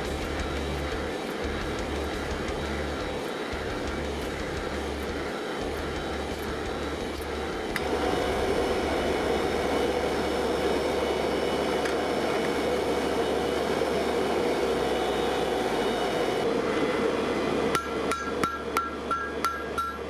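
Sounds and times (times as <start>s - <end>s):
low hum: 0.0s - 17.8s
steady rushing roar: 0.0s - 18.2s.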